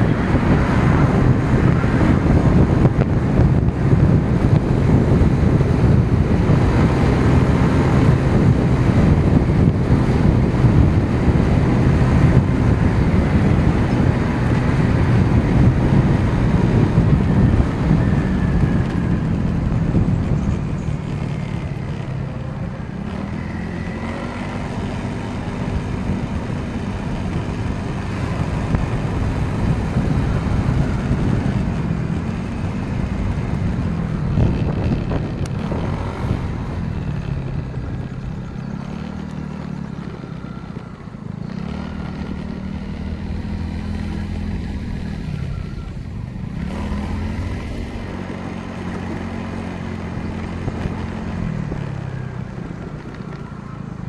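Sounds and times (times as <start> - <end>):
motorcycle engine revving: 0.0 - 54.0
road and wind noise: 0.0 - 54.0.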